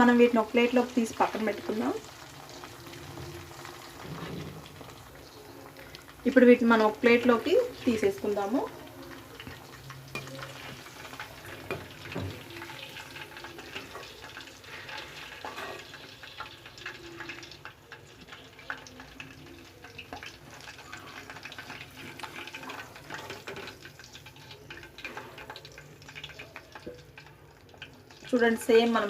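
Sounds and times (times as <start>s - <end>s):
crackles and pops of frying oil: 0.0s - 29.0s
food deep-frying in hot oil: 0.0s - 29.0s.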